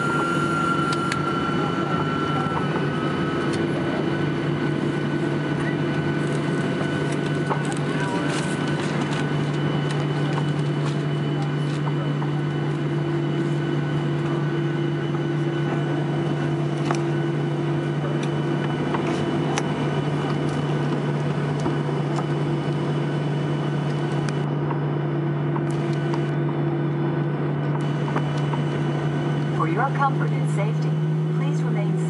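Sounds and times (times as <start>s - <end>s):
jet engines idling drone: 0.0s - 32.0s.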